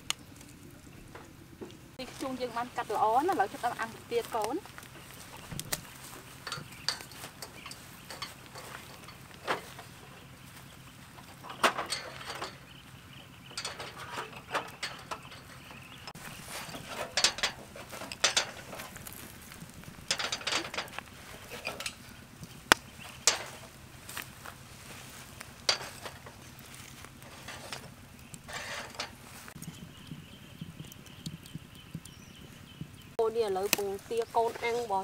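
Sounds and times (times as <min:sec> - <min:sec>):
bowls and metal grill clattering: 0:00.0 - 0:30.0.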